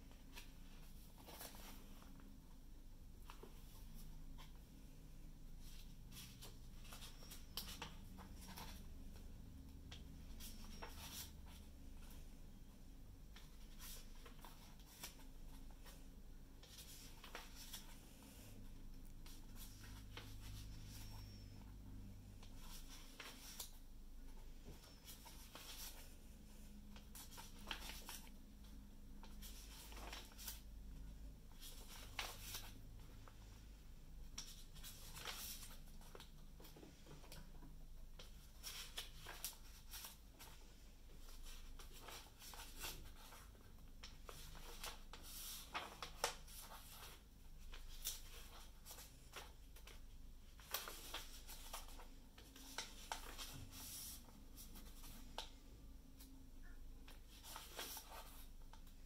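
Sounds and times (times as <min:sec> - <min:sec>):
paper pages rustling as turned: 0:00.2 - 0:02.2, 0:05.6 - 0:09.1, 0:09.9 - 0:12.2, 0:13.3 - 0:18.5, 0:19.2 - 0:21.7, 0:22.4 - 0:30.7, 0:31.5 - 0:55.6, 0:57.0 - 0:58.9.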